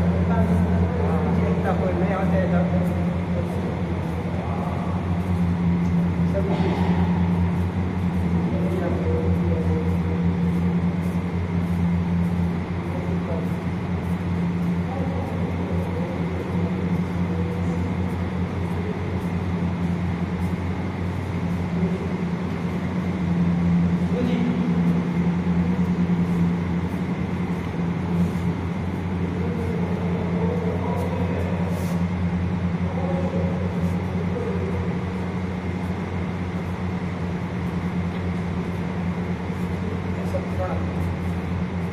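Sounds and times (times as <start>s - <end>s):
faint voices talking: 0.0s - 41.9s
steady low hum: 0.0s - 41.9s.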